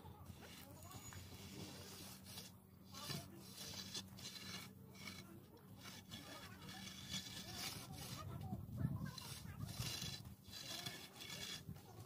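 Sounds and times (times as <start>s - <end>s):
straight-edge rasping on plaster: 0.0s - 12.0s.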